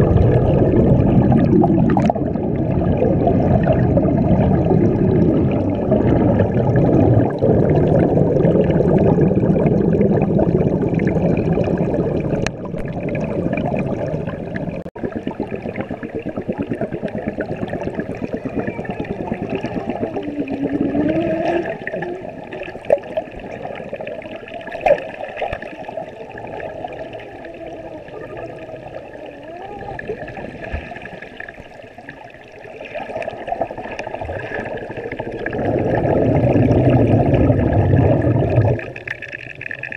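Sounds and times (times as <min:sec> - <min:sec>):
underwater churning and bubbling: 0:00.0 - 0:39.9.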